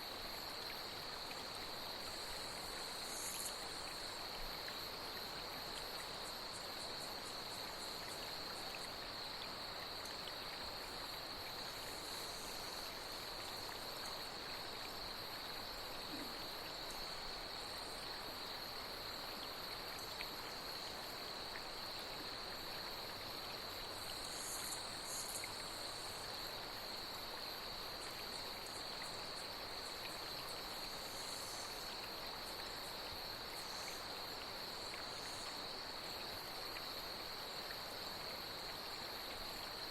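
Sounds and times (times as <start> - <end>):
flowing water: 0.0 - 39.9
night insects trilling: 0.0 - 39.9.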